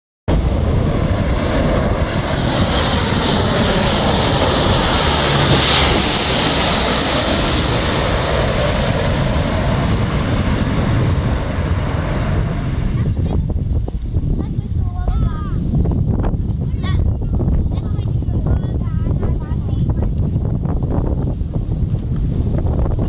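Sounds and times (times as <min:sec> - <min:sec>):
aircraft engine drone: 0:00.3 - 0:14.8, 0:18.6 - 0:23.0.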